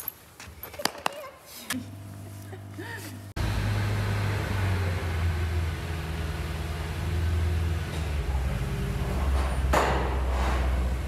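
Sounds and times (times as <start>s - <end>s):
low mechanical rumble: 1.8s - 11.0s.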